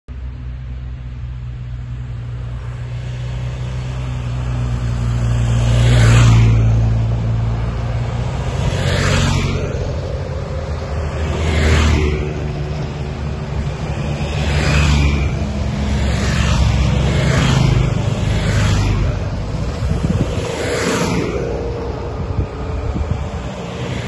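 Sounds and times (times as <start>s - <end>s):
motorcycles passing: 0.2s - 24.0s.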